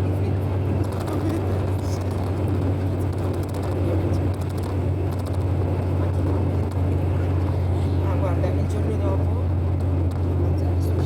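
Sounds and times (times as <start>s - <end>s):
continuous rushing noise: 0.0s - 11.0s.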